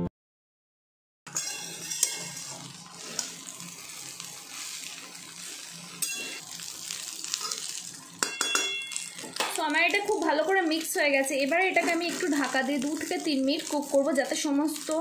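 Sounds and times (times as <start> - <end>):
food sizzling in pan: 1.3 - 15.0
spoon scraping food in pan: 1.3 - 15.0.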